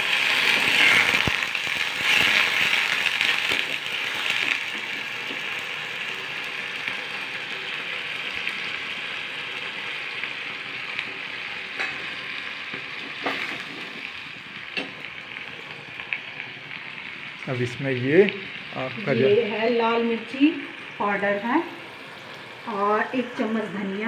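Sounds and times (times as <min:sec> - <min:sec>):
masala sizzling in a pan: 0:00.0 - 0:24.0.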